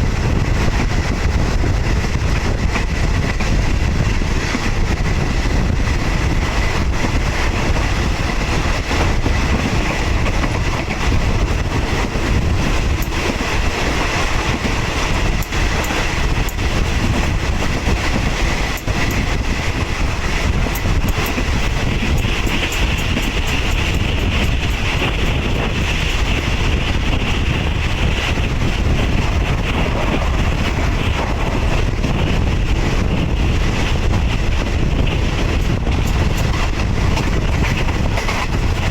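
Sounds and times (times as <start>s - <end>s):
train rumble and rattle: 0.0s - 38.9s.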